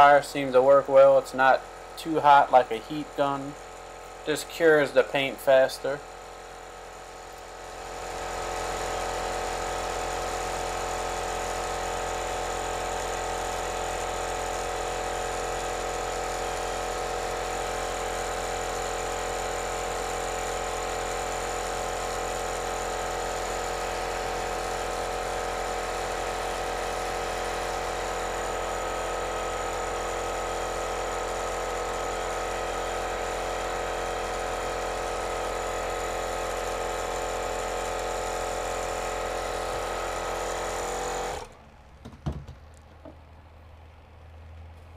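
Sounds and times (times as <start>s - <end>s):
hair dryer running: 3.3s - 41.5s.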